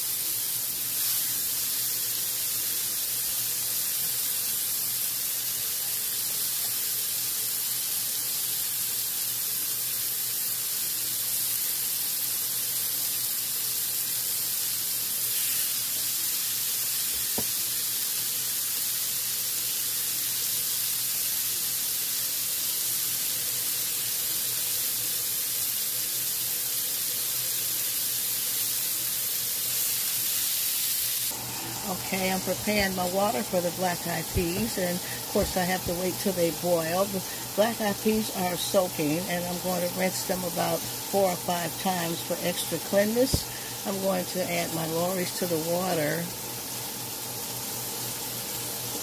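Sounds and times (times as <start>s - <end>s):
patties sizzling on a griddle: 0.0s - 49.0s.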